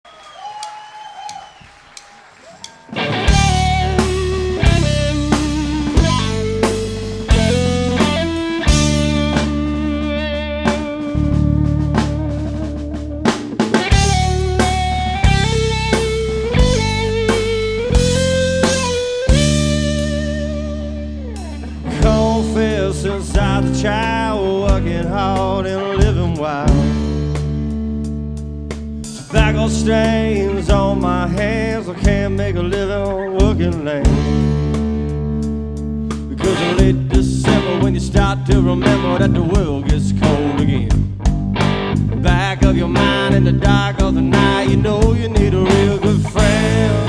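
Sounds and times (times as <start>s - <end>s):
blues-rock band playing: 2.6s - 47.0s
lead guitar bent notes: 2.9s - 32.3s, 34.1s - 47.0s.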